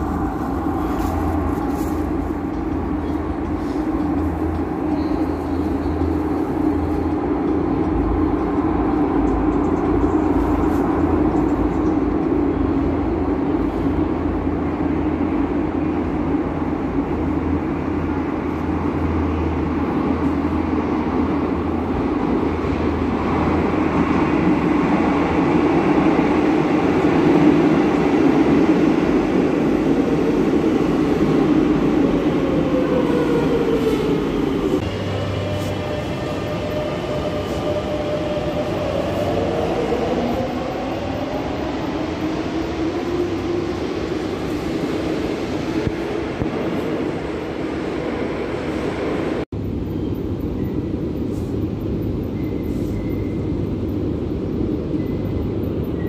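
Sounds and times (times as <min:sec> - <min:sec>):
train rumbling in tunnel: 0:00.0 - 0:56.0.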